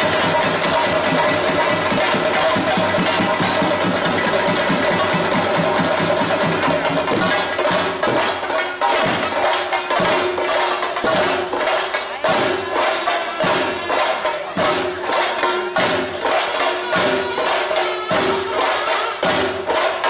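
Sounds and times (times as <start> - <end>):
drums beating: 0.0 - 20.0
jingling hand cymbals: 0.0 - 20.0.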